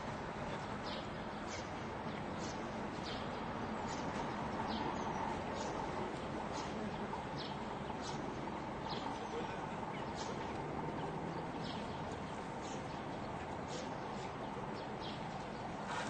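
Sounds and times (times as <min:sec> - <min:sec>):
city ambience hum: 0:00.0 - 0:16.0
small birds chirping: 0:00.5 - 0:16.0.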